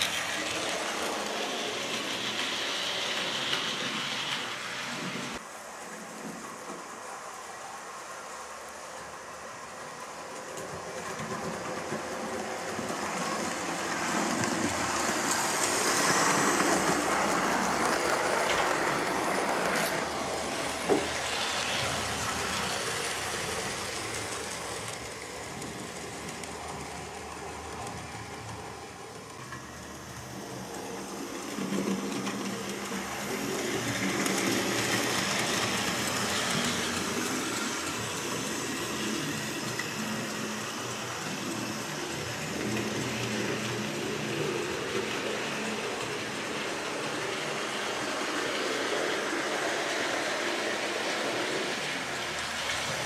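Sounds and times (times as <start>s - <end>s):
model train motor whirring: 9.6s - 53.0s
wheels rattling over rail joints: 10.0s - 53.0s.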